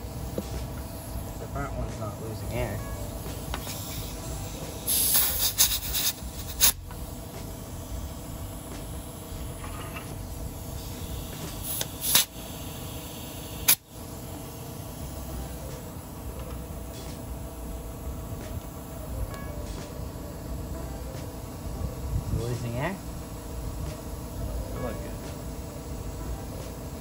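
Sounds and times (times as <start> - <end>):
air hissing from tyre valve: 0.0 - 27.0.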